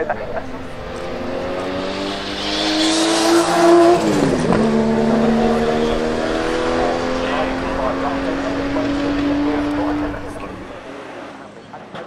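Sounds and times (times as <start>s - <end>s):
race car driving past: 0.0s - 11.6s.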